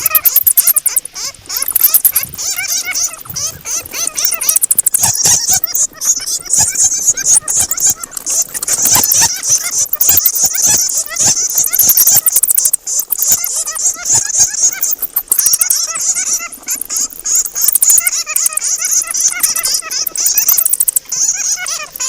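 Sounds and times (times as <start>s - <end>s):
sharp clicks: 0.0s - 2.4s, 3.1s - 5.9s, 6.5s - 21.1s
bats squeaking and chittering: 0.0s - 22.0s.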